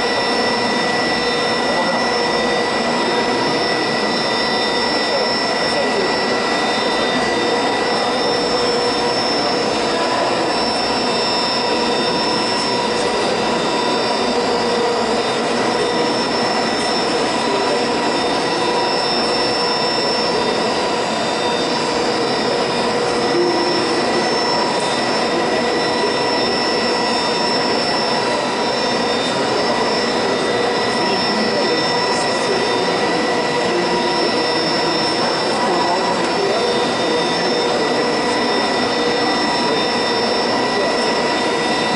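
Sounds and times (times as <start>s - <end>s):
winding engine whine: 0.0s - 41.9s.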